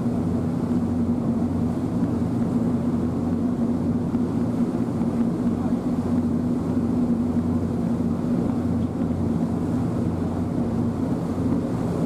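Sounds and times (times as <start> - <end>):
boat rushing through water: 0.0 - 12.0.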